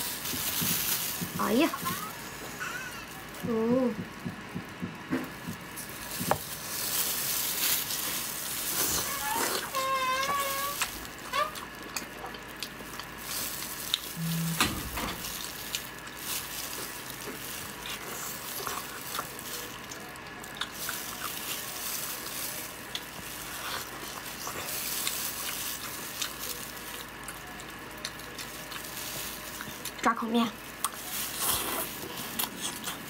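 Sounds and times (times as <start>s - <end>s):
wet chewing: 5.3s - 33.0s.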